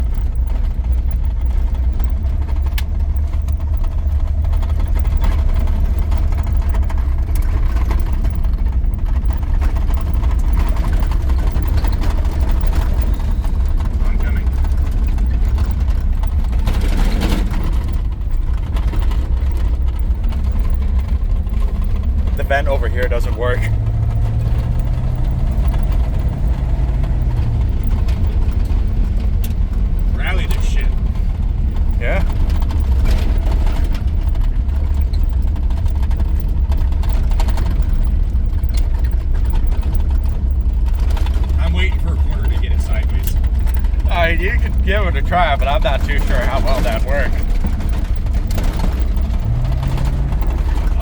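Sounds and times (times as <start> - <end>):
engine rumble inside cab: 0.0 - 51.0
road noise: 0.0 - 51.0.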